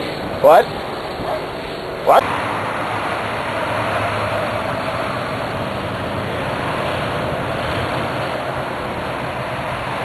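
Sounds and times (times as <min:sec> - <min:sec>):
road noise rushing: 0:00.0 - 0:10.0.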